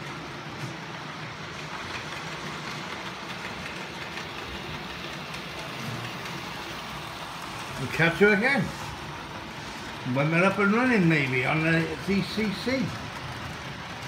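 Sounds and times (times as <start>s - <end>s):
model train motors humming: 0.0s - 14.0s
wheels rolling on rails: 0.0s - 14.0s.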